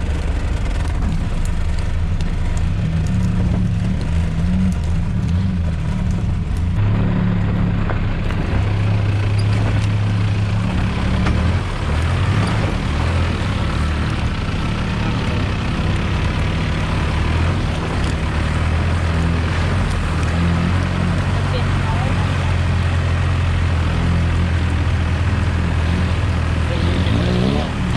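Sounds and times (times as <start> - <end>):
off-road vehicle engine droning: 0.0 - 27.9.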